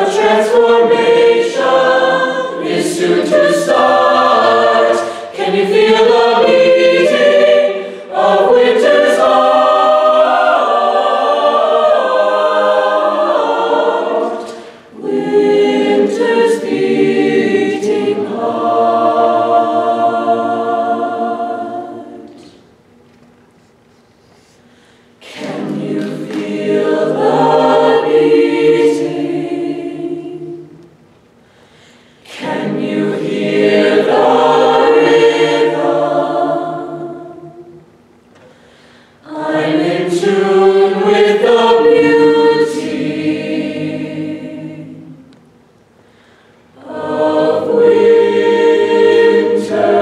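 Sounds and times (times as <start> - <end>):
choir breath: 0.0 - 22.7, 23.6 - 45.3, 45.9 - 50.0
choir singing a cappella: 0.0 - 22.8, 25.1 - 31.0, 31.6 - 50.0.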